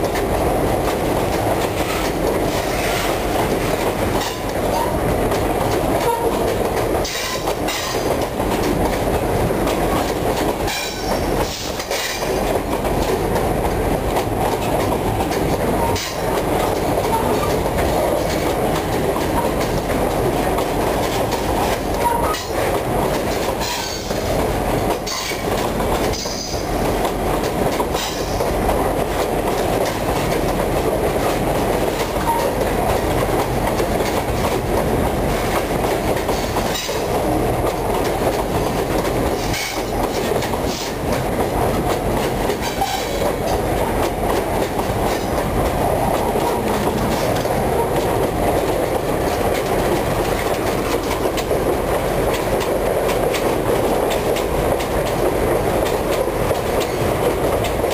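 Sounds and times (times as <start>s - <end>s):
clickety-clack over rail joints: 0.0s - 57.9s
steel wheels rumbling: 0.0s - 57.9s.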